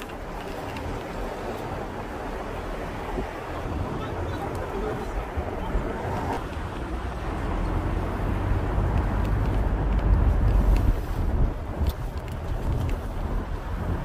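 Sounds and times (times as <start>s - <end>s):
street low rumble: 0.0s - 14.0s.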